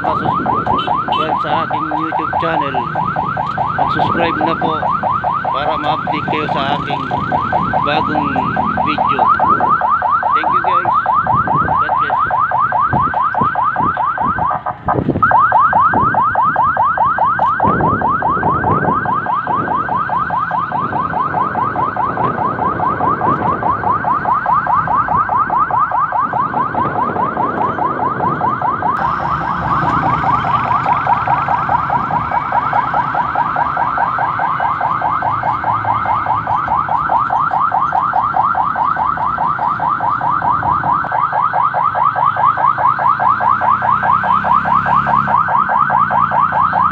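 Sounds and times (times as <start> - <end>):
chirping electronic siren: 0.0 - 46.9
engine and road noise: 0.0 - 46.9.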